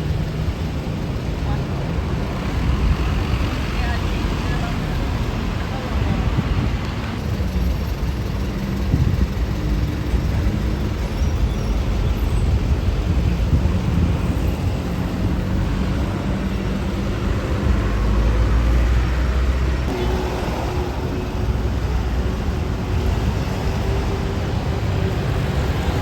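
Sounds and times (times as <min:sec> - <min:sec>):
large vehicle engines: 0:00.0 - 0:26.0
tyre and road noise: 0:00.0 - 0:26.0.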